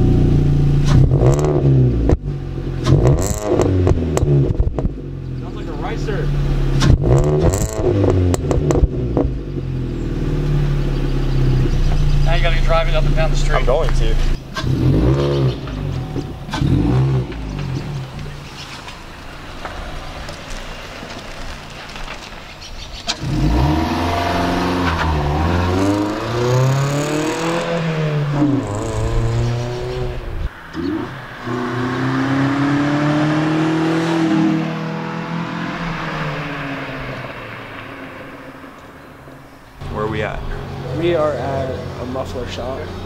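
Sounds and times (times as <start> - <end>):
car engine accelerating hard: 0.0 - 18.4, 23.1 - 43.0.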